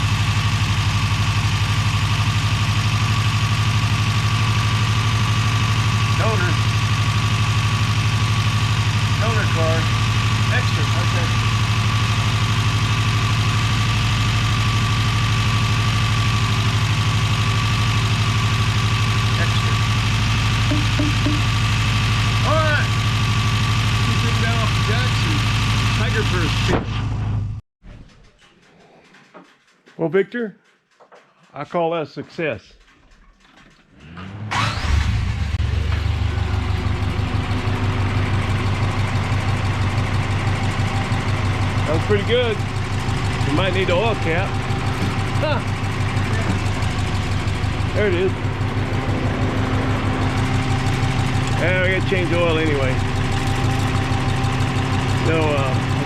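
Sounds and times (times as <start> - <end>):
car engine idling: 0.0 - 26.7, 32.7 - 56.0.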